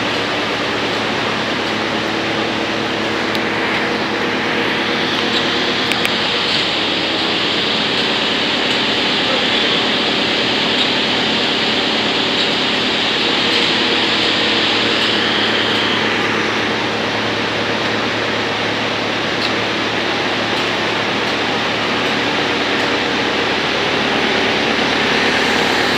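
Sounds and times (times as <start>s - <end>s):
wood chipper running: 0.0s - 25.9s.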